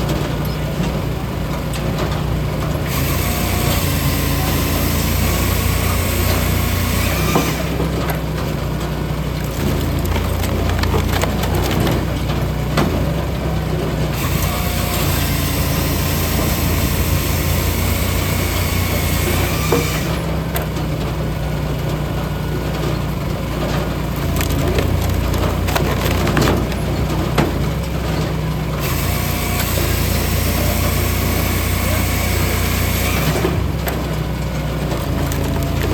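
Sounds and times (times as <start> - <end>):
log splitter engine running: 0.0 - 35.9
wood cracking and splintering: 1.7 - 35.9.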